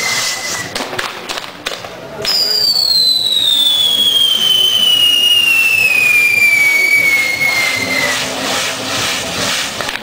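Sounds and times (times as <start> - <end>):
firework wheel whistling: 0.0 - 1.1, 2.2 - 10.0
burning powder hissing and crackling: 1.5 - 10.0.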